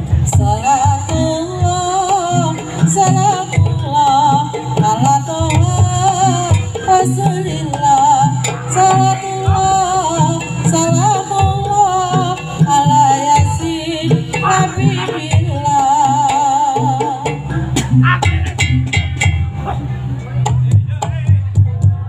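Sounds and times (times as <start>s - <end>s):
drum strokes: 0.0s - 22.0s.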